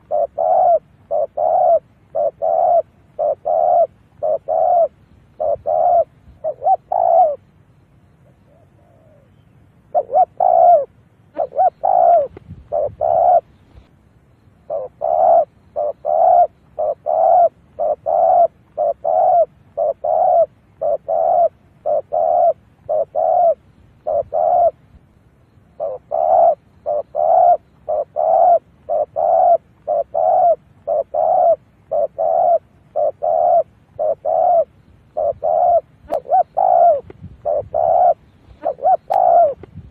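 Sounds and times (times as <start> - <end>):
dove cooing: 0.0 - 7.5, 8.1 - 13.9, 14.6 - 39.9.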